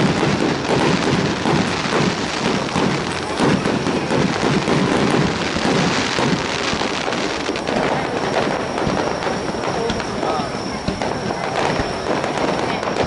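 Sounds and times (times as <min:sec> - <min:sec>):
deep firework thuds: 0:00.0 - 0:13.0
fireworks crackling: 0:00.0 - 0:13.0.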